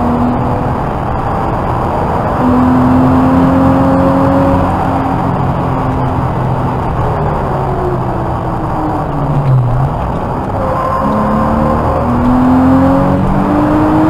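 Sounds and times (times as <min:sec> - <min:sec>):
car engine at high revs: 0:00.0 - 0:14.0
road and wind noise: 0:00.0 - 0:14.0.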